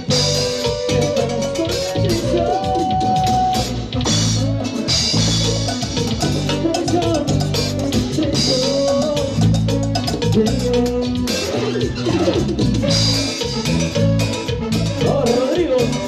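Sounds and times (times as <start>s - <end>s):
bass line: 0.0s - 16.0s
drum and percussion beat: 0.0s - 16.0s
live band playing latin dance music: 0.0s - 16.0s
sliding melodic lead line: 0.0s - 16.0s.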